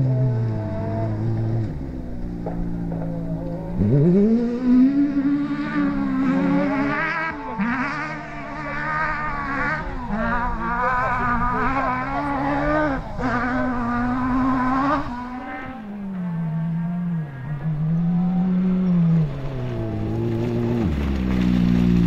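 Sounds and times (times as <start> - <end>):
rally car engine accelerating: 0.0 - 22.0.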